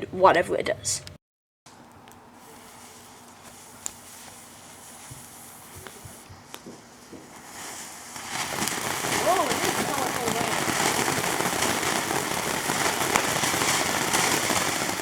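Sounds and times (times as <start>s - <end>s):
faint steady hiss: 1.7s - 15.0s
firework hissing: 2.4s - 15.0s.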